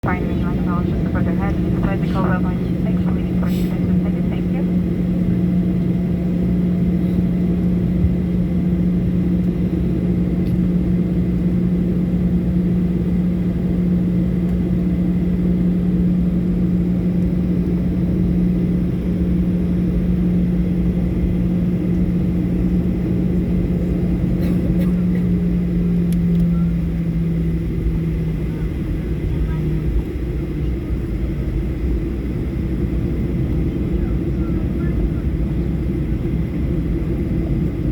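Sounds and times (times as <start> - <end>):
airplane cabin engine drone: 0.0 - 37.9.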